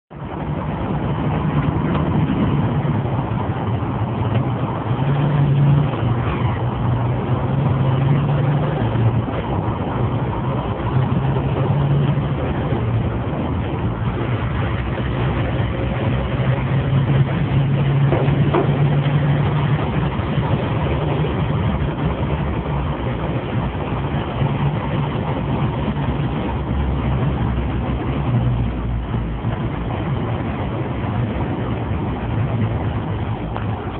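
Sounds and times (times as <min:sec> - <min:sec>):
tyre and traffic noise: 0:00.1 - 0:33.9
vehicle engine drone from cabin: 0:00.1 - 0:33.9.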